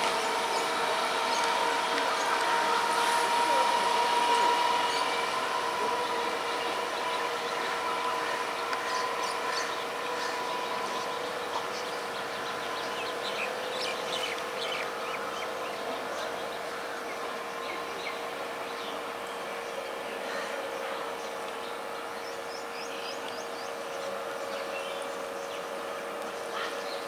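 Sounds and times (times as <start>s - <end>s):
electric train whine: 0.0s - 27.0s
train running hiss: 0.0s - 27.0s.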